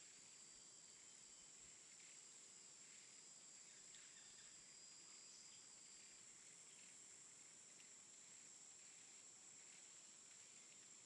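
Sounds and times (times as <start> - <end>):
faint high-pitched hiss: 0.0 - 11.0.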